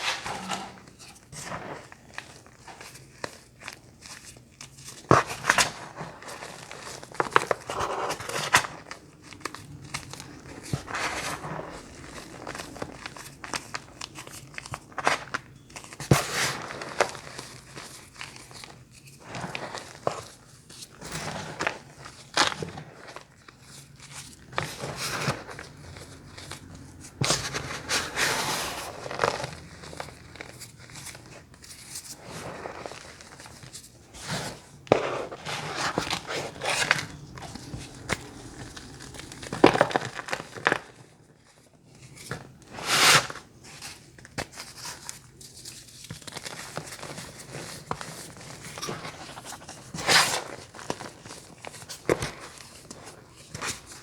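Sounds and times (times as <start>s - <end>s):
crunching and crinkling: 0.0s - 54.0s.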